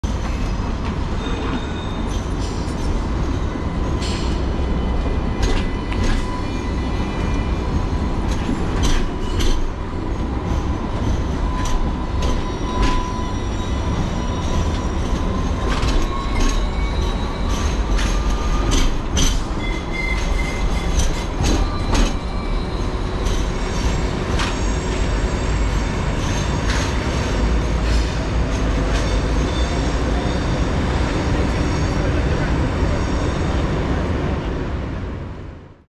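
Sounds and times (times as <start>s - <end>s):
tram wheel squeal: 0.1s - 34.8s.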